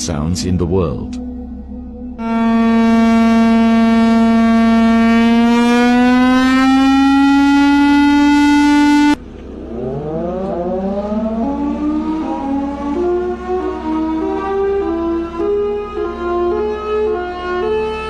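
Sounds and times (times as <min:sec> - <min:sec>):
warning siren steady tone: 0:01.2 - 0:18.0
siren winding up: 0:02.2 - 0:18.0.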